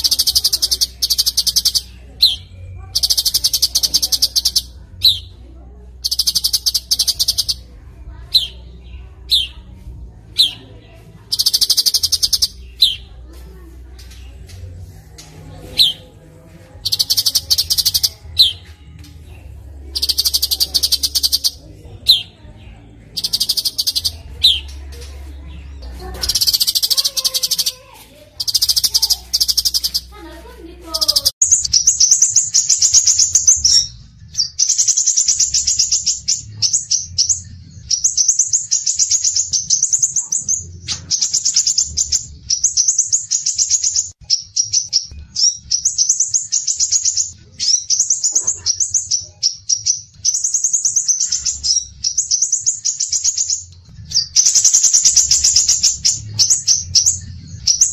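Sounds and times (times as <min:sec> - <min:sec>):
songbird chatter and trills: 0:00.0 - 0:57.9.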